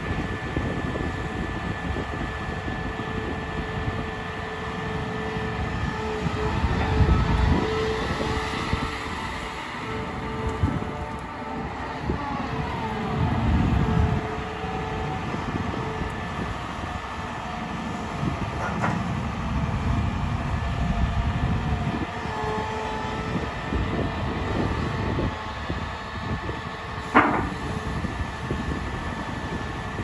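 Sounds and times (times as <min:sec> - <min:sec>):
excavator diesel engine running: 0:00.0 - 0:30.0
hydraulic whine: 0:00.0 - 0:30.0.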